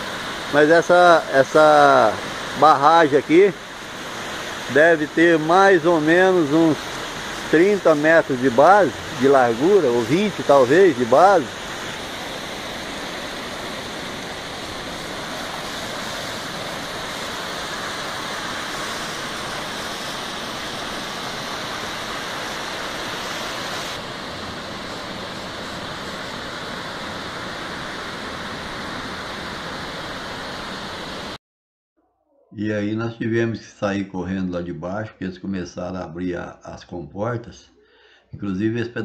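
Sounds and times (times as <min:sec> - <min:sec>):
water rushing down spillway: 0:00.0 - 0:31.4.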